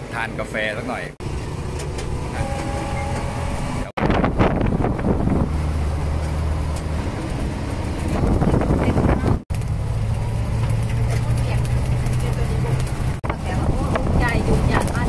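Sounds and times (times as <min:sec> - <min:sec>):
engine drone: 0:00.0 - 0:15.0
wind and road rush: 0:00.0 - 0:15.0.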